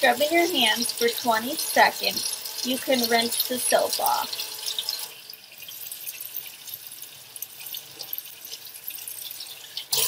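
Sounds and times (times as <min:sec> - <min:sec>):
faucet water splashing into sink: 0:00.0 - 0:10.0.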